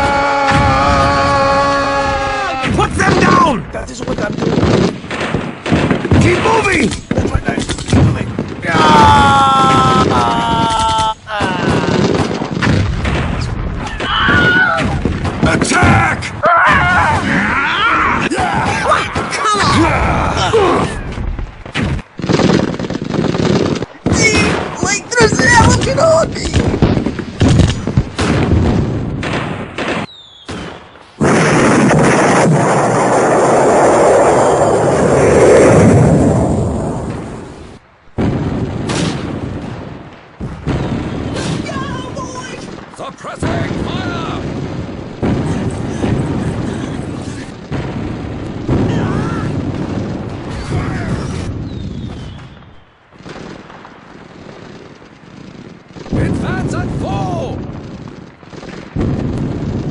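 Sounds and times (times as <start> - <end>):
war sounds rumble: 0.0 - 30.1, 30.7 - 59.9
gunshots and blasts: 0.0 - 59.9
sustained explosion rush: 0.0 - 59.9.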